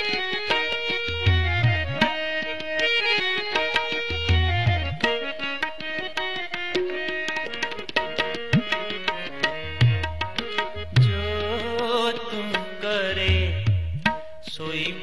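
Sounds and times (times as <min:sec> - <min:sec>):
harmonium melody: 0:00.0 - 0:15.0
tabla: 0:00.0 - 0:15.0.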